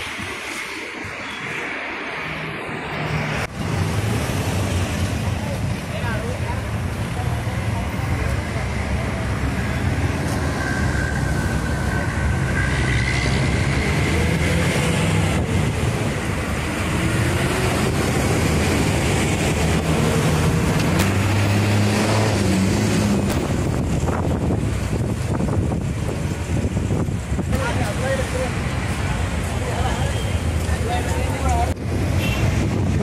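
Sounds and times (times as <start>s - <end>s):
road noise: 0.0s - 33.0s
vehicle engines running: 2.9s - 33.0s.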